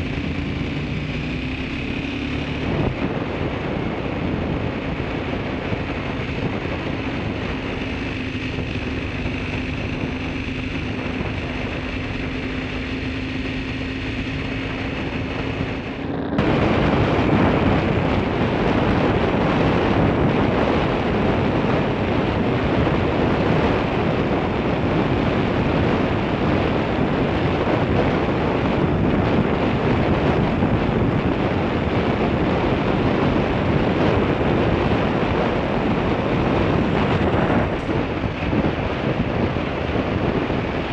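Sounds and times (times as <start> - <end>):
road noise: 0.0 - 40.9
wind rushing over microphone: 0.0 - 40.9.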